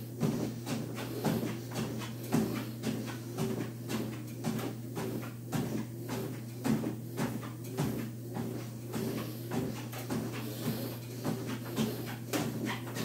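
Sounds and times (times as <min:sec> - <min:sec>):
footsteps on treadmill belt: 0:00.0 - 0:13.0
treadmill humming: 0:00.0 - 0:13.0.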